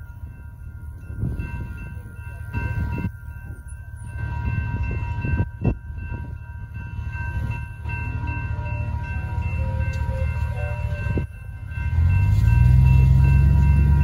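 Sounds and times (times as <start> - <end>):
crossing signal bells ringing: 0.0 - 14.0.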